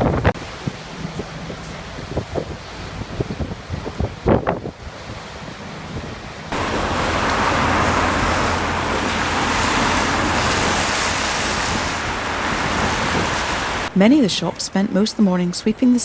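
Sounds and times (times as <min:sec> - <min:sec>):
wind buffeting microphone: 0:00.0 - 0:14.2
gale wind: 0:00.0 - 0:16.0
waves breaking: 0:00.0 - 0:16.0.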